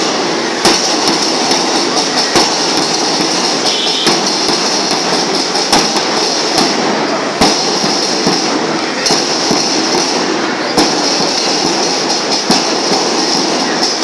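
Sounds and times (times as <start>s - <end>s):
percussion band drums and cymbals: 0.0s - 14.0s.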